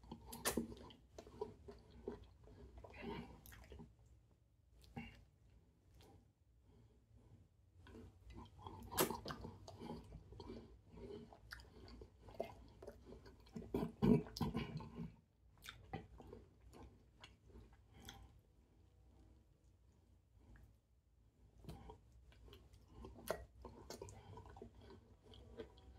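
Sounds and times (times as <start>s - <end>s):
close chewing with mouth clicks: 0.0s - 4.2s, 4.8s - 20.8s, 21.4s - 25.9s.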